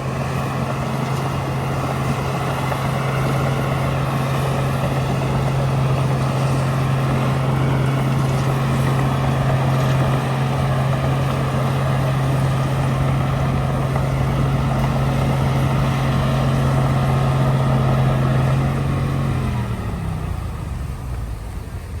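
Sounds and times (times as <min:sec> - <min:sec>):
diesel engine running at high revs: 0:00.0 - 0:22.0.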